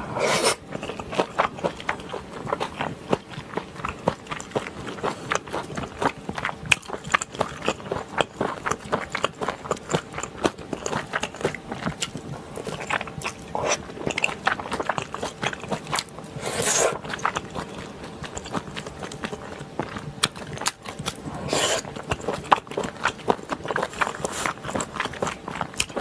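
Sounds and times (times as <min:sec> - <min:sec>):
close chewing and mouth clicks: 0:00.5 - 0:26.0.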